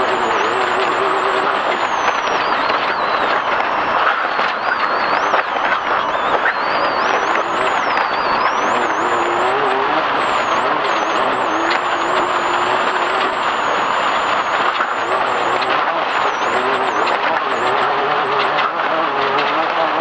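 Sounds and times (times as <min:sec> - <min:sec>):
off-road vehicle engine revving: 0:00.0 - 0:20.0
sharp ticks: 0:00.0 - 0:20.0
tyres on dirt trail: 0:00.0 - 0:20.0.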